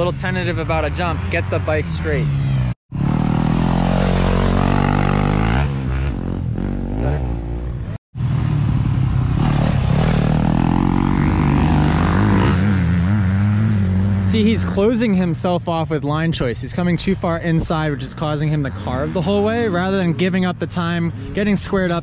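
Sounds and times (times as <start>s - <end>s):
dirt bikes revving: 0.0s - 15.8s, 16.8s - 22.0s
dirt bike engine running steadily: 0.0s - 20.4s.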